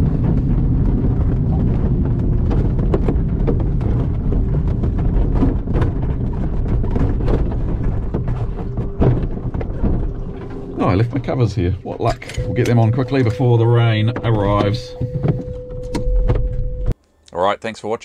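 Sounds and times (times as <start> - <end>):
glider wheel rumbling over grass: 0.0 - 14.9
airframe knocking and rattling: 0.0 - 16.8.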